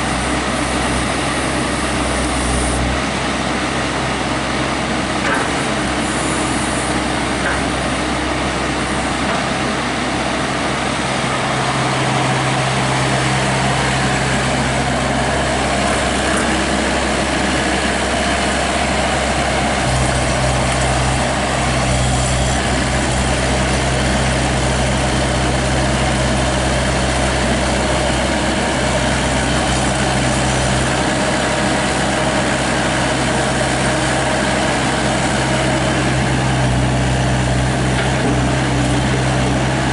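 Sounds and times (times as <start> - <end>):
excavator digging dirt: 0.0 - 39.9
excavator engine running: 0.0 - 39.9.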